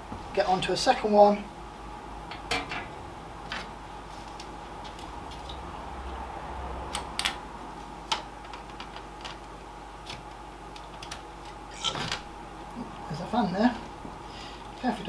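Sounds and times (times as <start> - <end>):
pc fans humming: 0.0 - 15.0.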